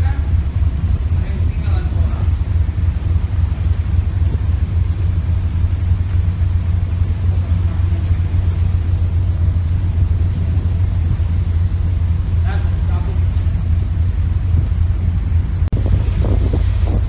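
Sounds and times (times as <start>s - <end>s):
ship engine drone: 0.0s - 17.0s
water noise: 0.0s - 17.0s
wind: 0.0s - 17.0s.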